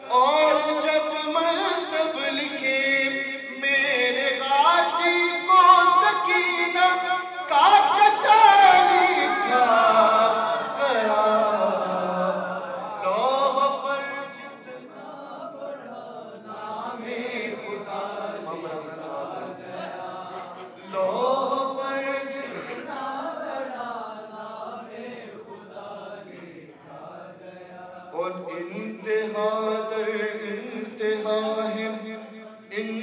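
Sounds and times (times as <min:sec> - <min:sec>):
man chanting into a microphone: 0:00.0 - 0:19.5, 0:20.5 - 0:23.6, 0:27.2 - 0:33.0.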